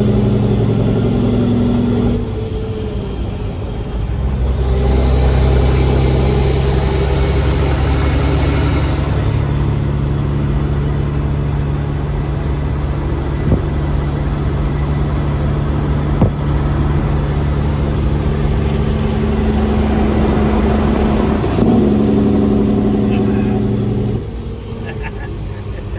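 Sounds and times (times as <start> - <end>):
truck diesel engine droning: 0.0 - 25.9.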